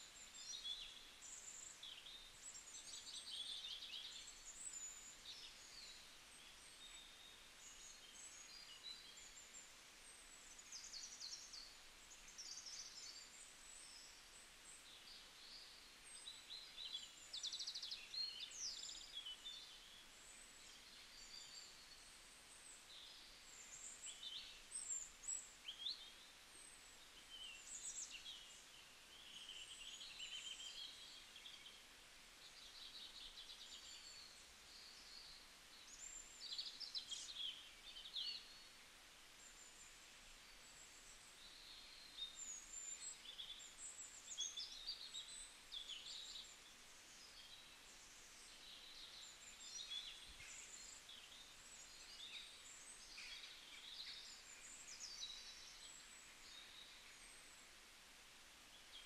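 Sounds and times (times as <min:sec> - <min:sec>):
outdoor background hiss: 0:00.0 - 0:59.0.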